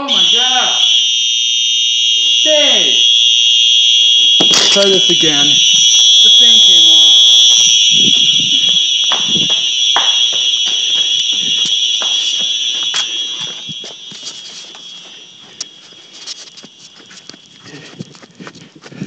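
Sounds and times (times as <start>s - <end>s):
fire alarm steady high tone: 0.0s - 18.6s
footsteps: 2.2s - 19.0s.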